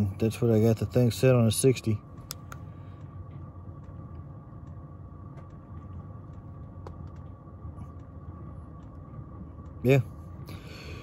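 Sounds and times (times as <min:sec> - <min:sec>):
diesel heater humming: 0:00.0 - 0:11.0
faint steady whine: 0:00.0 - 0:11.0.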